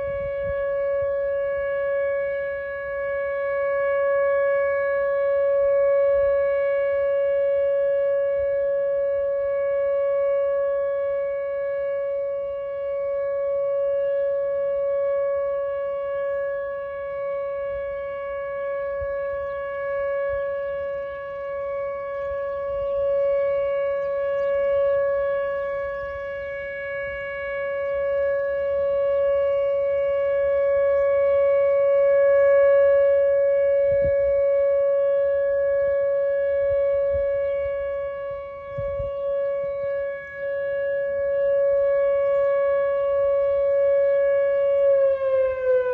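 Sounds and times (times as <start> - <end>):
electronic warning siren steady tone: 0.0 - 45.9.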